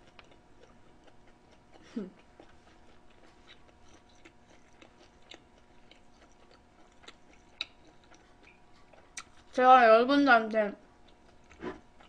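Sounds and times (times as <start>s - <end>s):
close-miked chewing: 0.0s - 9.6s, 11.0s - 12.0s
faint steady hum: 0.0s - 12.0s.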